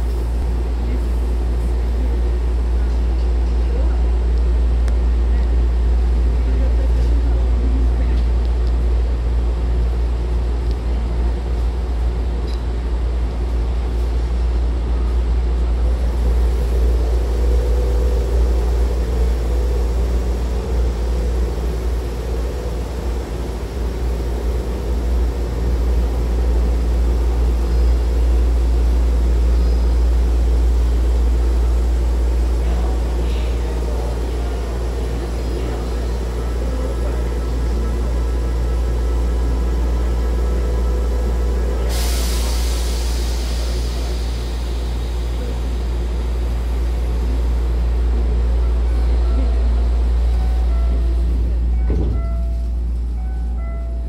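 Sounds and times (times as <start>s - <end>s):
electric train humming: 0.0s - 54.0s
station background noise: 0.0s - 54.0s.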